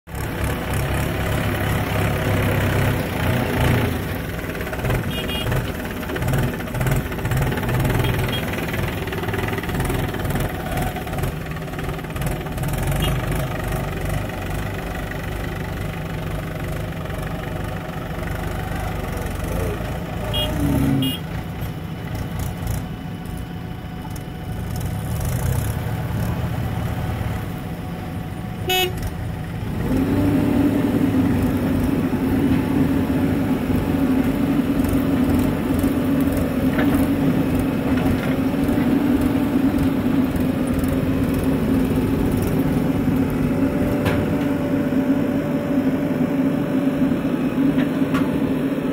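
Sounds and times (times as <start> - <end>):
tractor engine idling: 0.1 - 29.7, 30.8 - 48.9
backhoe loader engine droning: 0.1 - 48.9.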